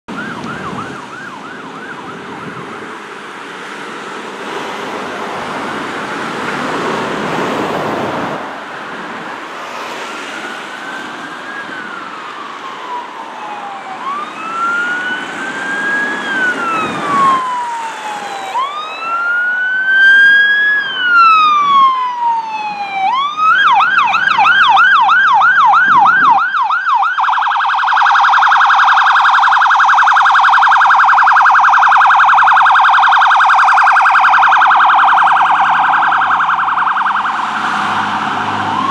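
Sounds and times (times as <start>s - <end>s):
cars passing: 0.1s - 38.9s
fire engine siren: 0.1s - 38.9s.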